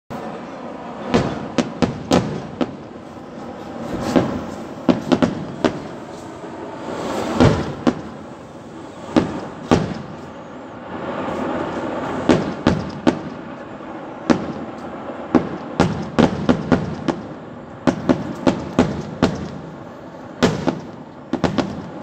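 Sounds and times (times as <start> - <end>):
firework bangs: 0.1 - 22.0
rumbling explosions: 0.9 - 22.0.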